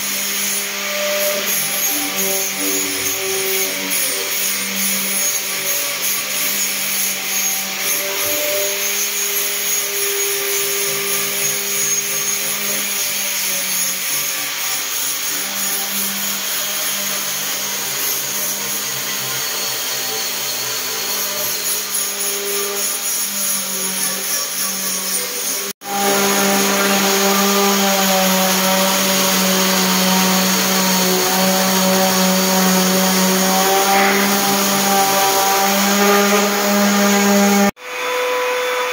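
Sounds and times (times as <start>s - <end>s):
electric palm sander running: 0.0s - 38.9s.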